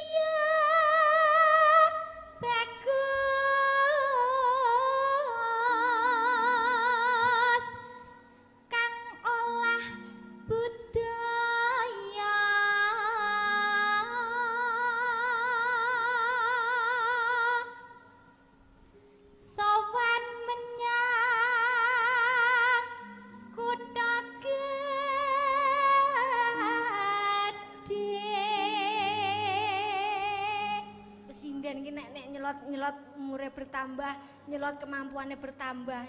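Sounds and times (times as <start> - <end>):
woman singing with slow vibrato: 0.0 - 18.4, 19.4 - 36.0.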